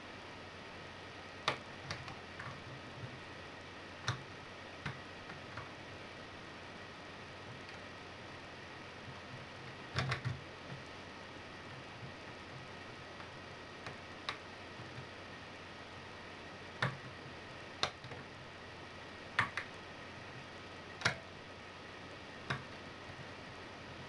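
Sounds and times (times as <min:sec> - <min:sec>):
steady low hiss: 0:00.0 - 0:24.0.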